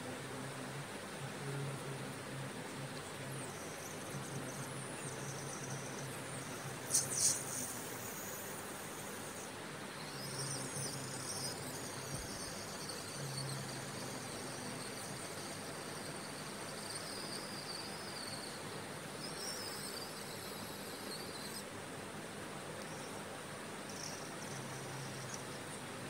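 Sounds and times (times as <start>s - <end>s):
background hiss: 0.0s - 26.0s
insect trilling: 2.7s - 21.7s, 23.8s - 25.8s.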